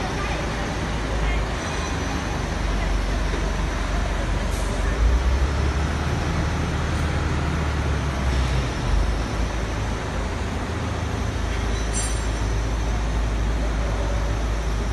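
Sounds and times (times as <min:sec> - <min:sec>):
factory hall rumble and hiss: 0:00.0 - 0:14.9.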